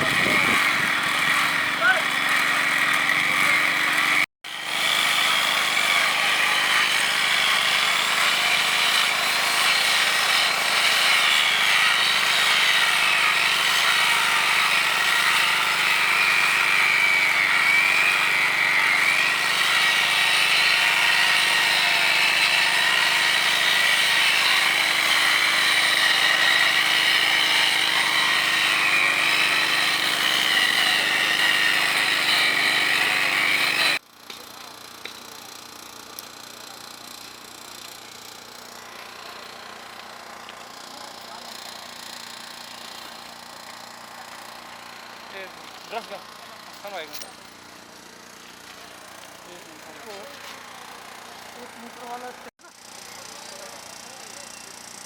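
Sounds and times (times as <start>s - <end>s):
power tool whining: 0.0s - 55.0s.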